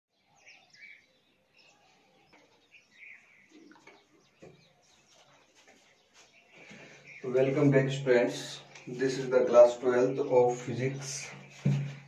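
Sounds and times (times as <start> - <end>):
faint bird chirps: 0.1 - 12.0.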